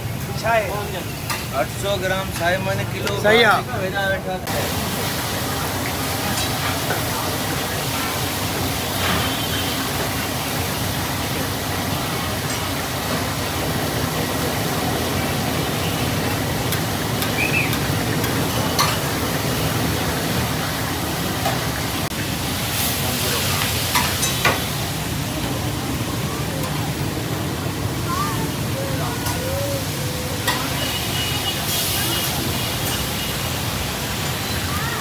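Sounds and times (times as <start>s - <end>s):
fish sizzling in hot oil: 4.5s - 27.9s, 29.2s - 35.0s.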